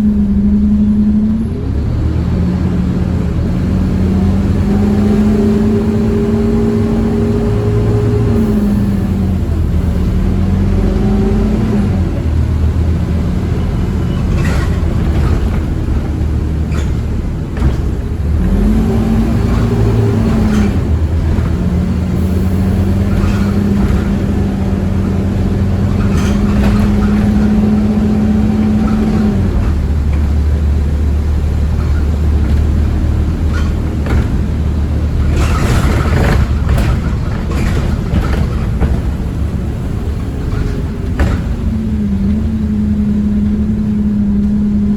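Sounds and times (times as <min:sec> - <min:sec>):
bus engine drone: 0:00.0 - 0:44.9.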